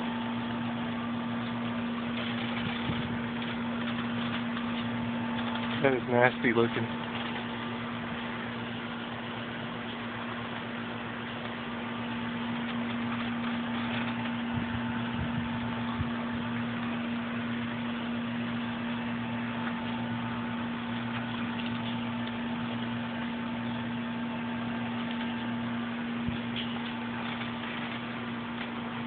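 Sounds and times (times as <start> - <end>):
machine-like hum: 0.0 - 29.0.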